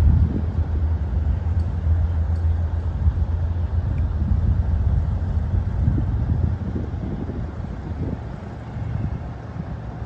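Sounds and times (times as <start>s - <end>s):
distant diesel locomotive rumbling: 0.0s - 10.0s.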